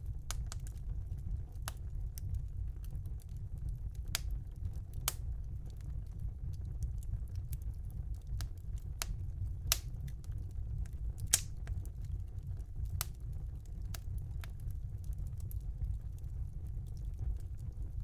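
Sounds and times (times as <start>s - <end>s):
fire pops: 0.0s - 0.9s, 1.6s - 16.0s
wood fire crackling: 0.0s - 18.0s.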